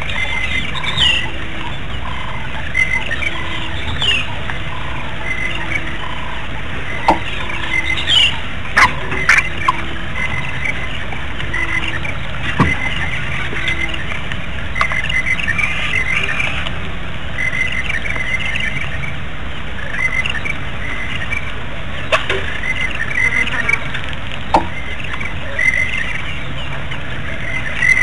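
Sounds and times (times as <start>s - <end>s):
outdoor background hiss: 0.0s - 28.0s
small birds chirping: 0.0s - 28.0s.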